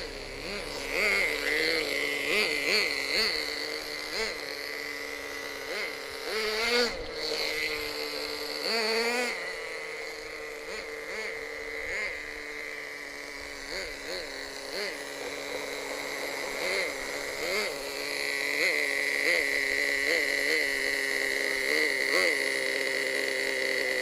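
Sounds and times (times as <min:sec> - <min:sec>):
small glow engine idling and revving: 0:00.0 - 0:24.0.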